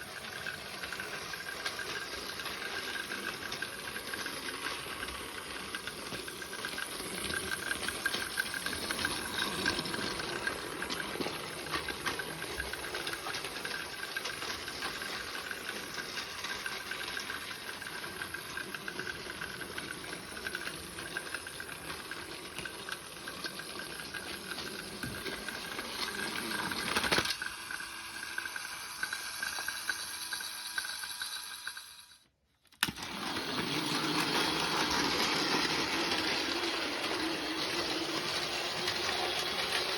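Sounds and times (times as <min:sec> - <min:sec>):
toy train motor whine: 0:00.0 - 0:39.9
toy train wheels rattling: 0:00.0 - 0:39.9.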